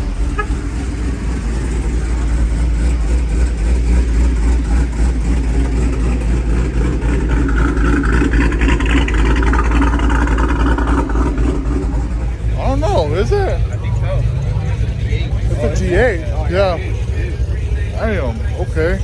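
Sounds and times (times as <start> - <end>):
deep engine rumble: 0.0 - 19.0.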